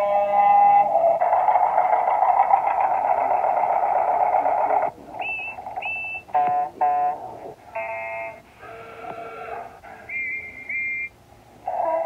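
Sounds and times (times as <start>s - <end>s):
buzzing engine-like noise: 0.9s - 11.1s.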